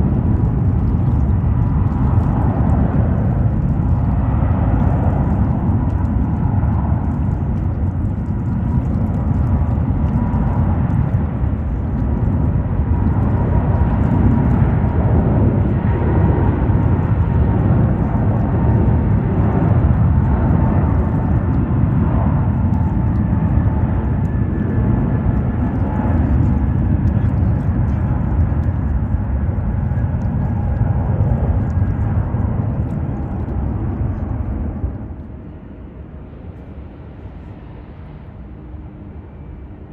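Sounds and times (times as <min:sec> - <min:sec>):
faint steady whine: 0:00.0 - 0:39.9
jet engines rumbling: 0:00.0 - 0:39.9.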